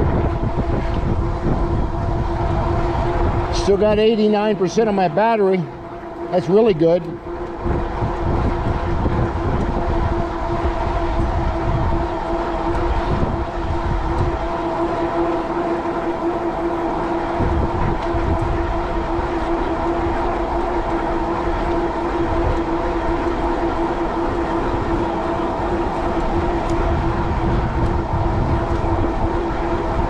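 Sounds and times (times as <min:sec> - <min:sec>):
electric bike motor whine: 0:00.0 - 0:30.0
wind buffeting microphone: 0:00.0 - 0:30.0.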